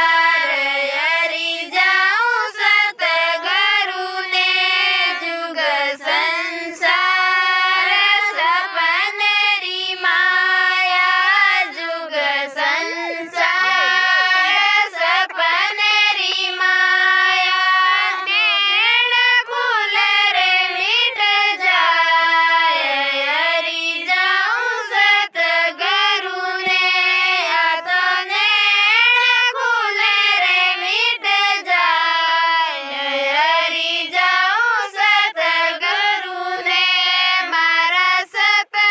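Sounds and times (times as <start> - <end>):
woman singing unaccompanied: 0.0 - 38.9.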